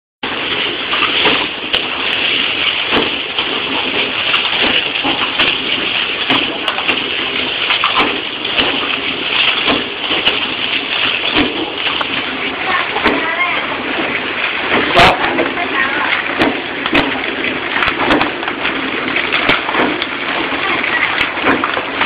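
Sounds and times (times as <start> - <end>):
packaging machine rushing: 0.3 - 22.0.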